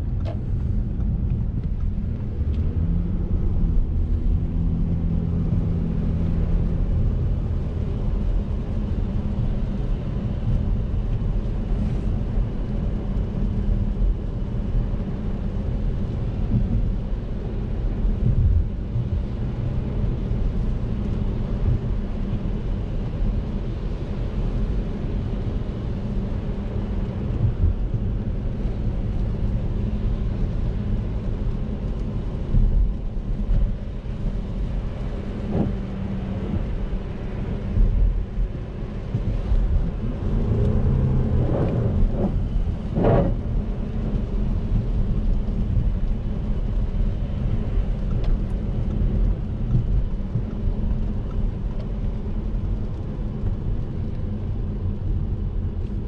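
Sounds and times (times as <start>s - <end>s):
car engine and road rumble: 0.0s - 56.0s
tyre noise on wet road: 0.0s - 56.0s.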